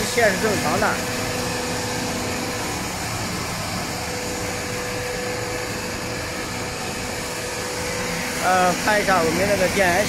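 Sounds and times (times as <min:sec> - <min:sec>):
whooshing machine hum: 0:00.0 - 0:10.0.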